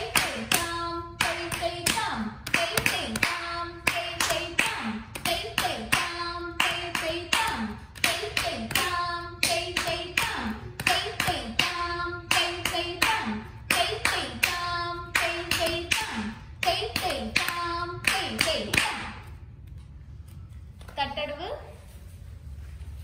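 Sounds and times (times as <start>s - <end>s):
person chanting rhythm syllables: 0.0s - 19.5s.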